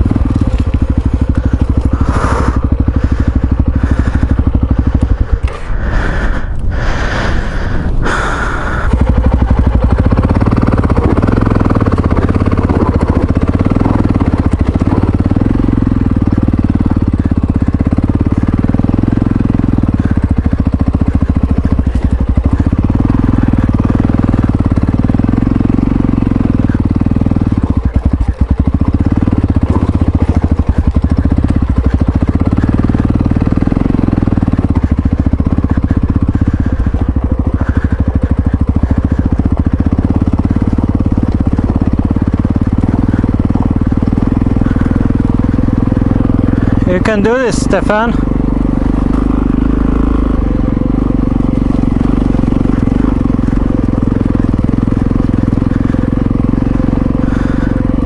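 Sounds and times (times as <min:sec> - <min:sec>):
motorcycle engine running: 0:00.0 - 0:58.0
rough gritty noise: 0:00.0 - 0:58.0.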